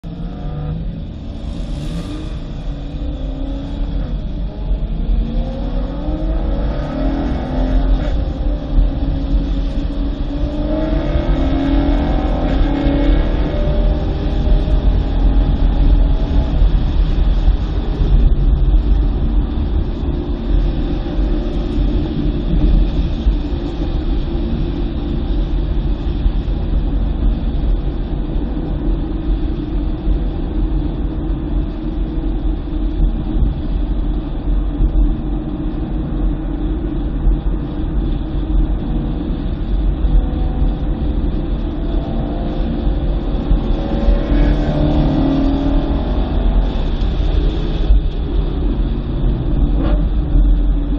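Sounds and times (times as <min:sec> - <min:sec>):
car engine rumble: 0:00.0 - 0:50.9
road noise: 0:00.0 - 0:50.9.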